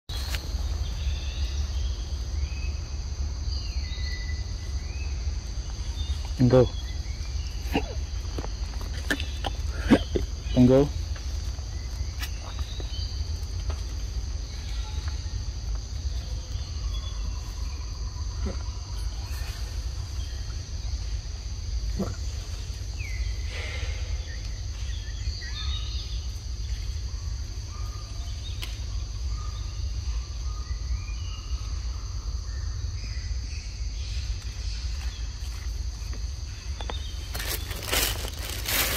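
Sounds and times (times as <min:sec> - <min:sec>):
faint chirping calls: 0:00.1 - 0:38.9
insects chirring: 0:00.1 - 0:38.9.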